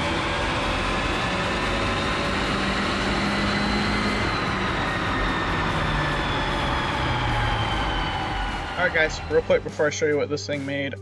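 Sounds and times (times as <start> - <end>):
car engine droning on dyno: 0.0 - 10.2.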